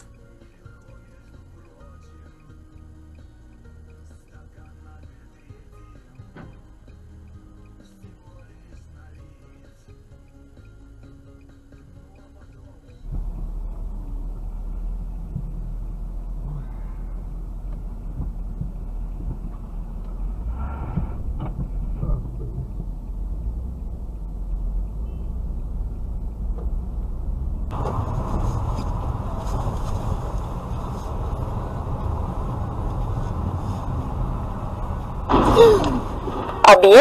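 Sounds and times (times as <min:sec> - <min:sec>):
engine and traffic rumble: 0:00.0 - 0:37.0
road and engine noise: 0:00.0 - 0:37.0.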